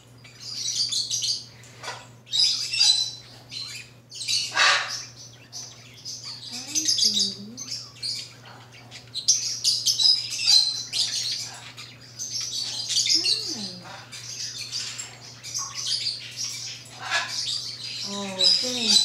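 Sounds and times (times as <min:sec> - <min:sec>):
birds chirping: 0:00.0 - 0:19.0
faint low hum: 0:00.0 - 0:19.0.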